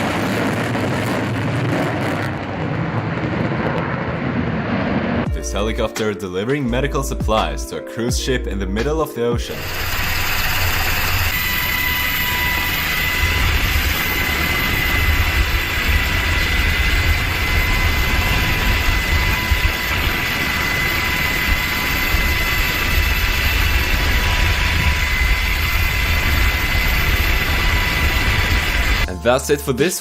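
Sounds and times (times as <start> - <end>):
helicopter turbine whine: 0.0 - 5.5, 9.4 - 29.4
helicopter rotor rumble: 0.0 - 5.8, 9.4 - 29.2.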